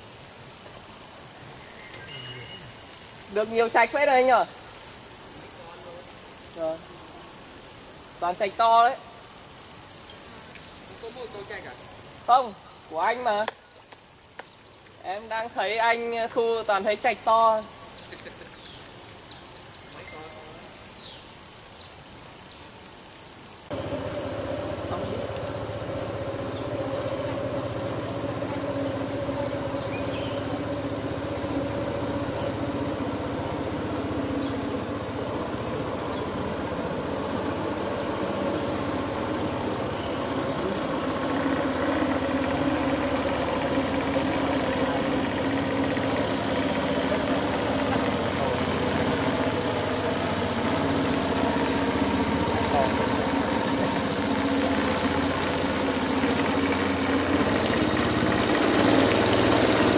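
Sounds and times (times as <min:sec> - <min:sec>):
insects shrilling: 0:00.0 - 0:59.9.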